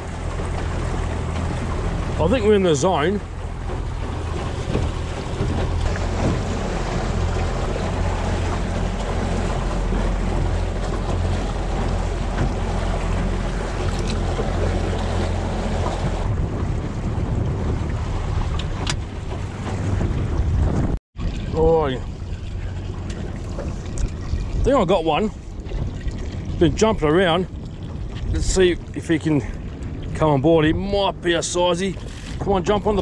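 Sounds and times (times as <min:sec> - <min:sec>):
outboard motor running: 0:00.0 - 0:33.0
water rushing past hull: 0:00.0 - 0:33.0
wind buffeting microphone: 0:00.0 - 0:33.0.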